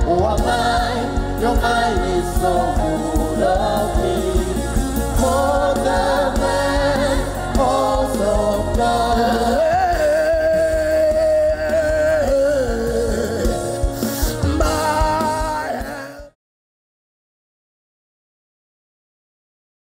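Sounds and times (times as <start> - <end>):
backing accompaniment: 0.0 - 16.3.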